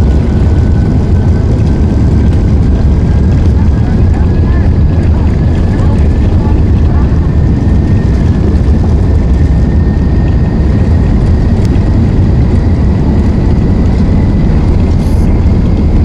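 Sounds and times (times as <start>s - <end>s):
jet engines rumbling with whine: 0.0s - 16.0s.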